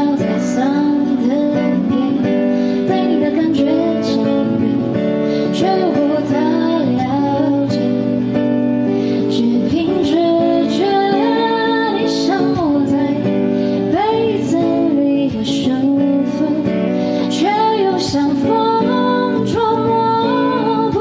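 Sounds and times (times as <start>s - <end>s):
acoustic guitar accompaniment: 0.0s - 21.0s
woman singing pop ballad: 0.0s - 21.0s.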